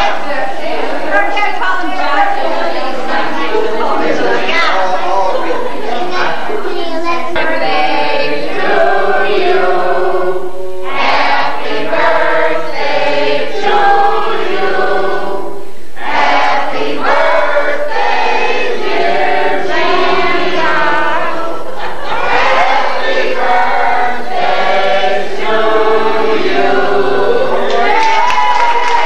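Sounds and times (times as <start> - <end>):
group of voices singing: 0.0 - 29.0.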